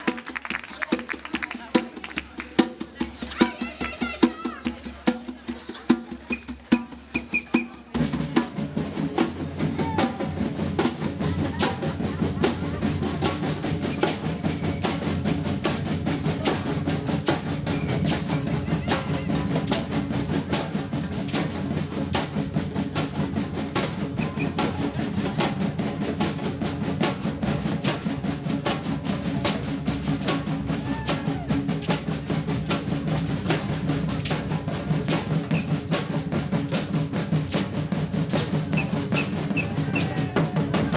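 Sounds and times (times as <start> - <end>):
percussion band playing drums: 0.0 - 40.9.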